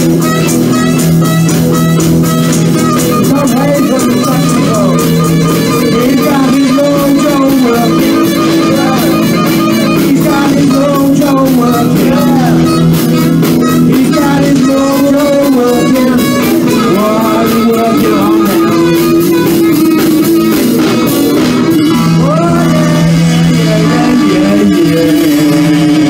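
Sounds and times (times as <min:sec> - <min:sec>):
live blues band playing: 0:00.0 - 0:26.0
sliding melody notes: 0:00.0 - 0:26.0.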